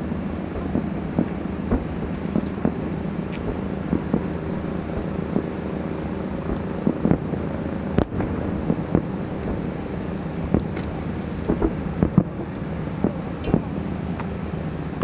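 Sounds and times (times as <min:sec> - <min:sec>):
fireworks bangs: 0:00.4 - 0:15.0
low rumble: 0:02.0 - 0:15.0.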